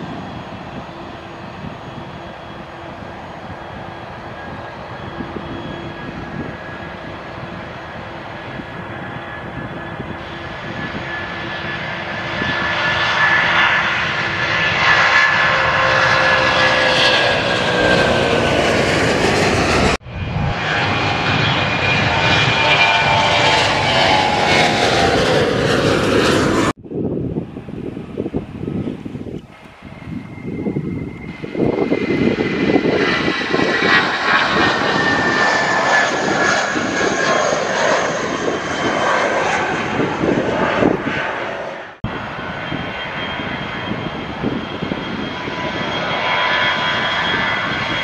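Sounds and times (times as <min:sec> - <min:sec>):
jet airliner taking off: 0:00.0 - 0:48.0.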